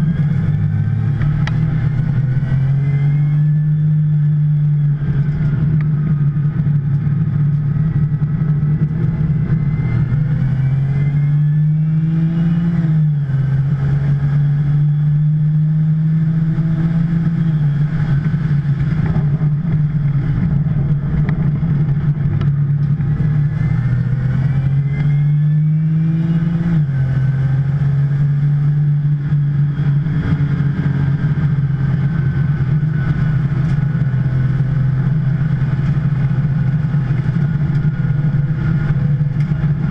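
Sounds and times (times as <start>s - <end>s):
sports car engine revving at speed: 0.0s - 39.9s.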